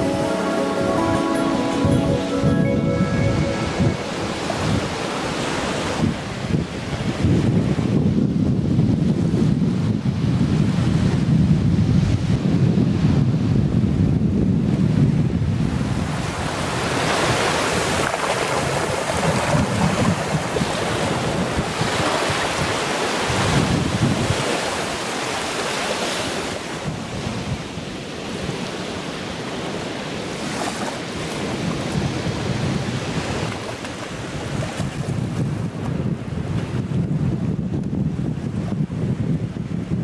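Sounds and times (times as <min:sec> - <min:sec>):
waves breaking on beach: 0:00.0 - 0:13.4, 0:14.8 - 0:37.5
wind buffeting microphone: 0:01.8 - 0:40.0.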